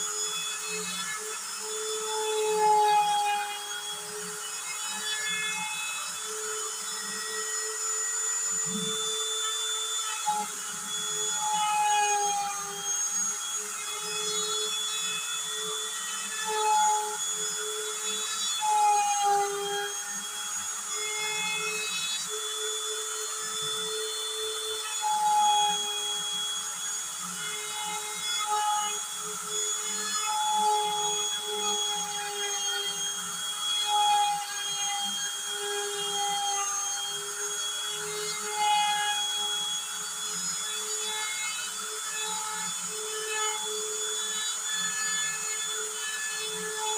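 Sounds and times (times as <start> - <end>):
router whining while cutting: 0.0 - 46.9.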